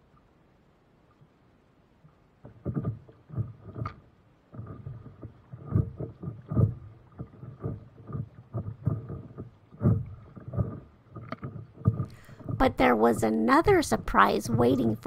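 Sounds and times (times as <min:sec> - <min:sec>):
water slapping against paddleboard: 0:02.4 - 0:15.0.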